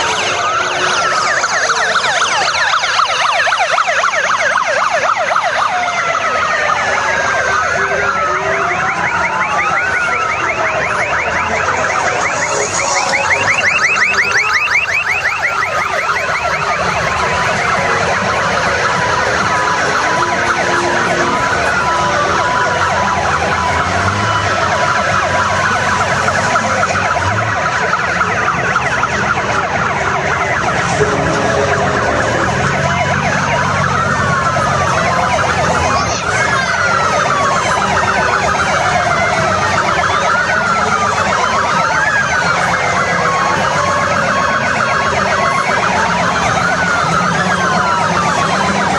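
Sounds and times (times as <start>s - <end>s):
sirens wailing: 0.0s - 48.9s.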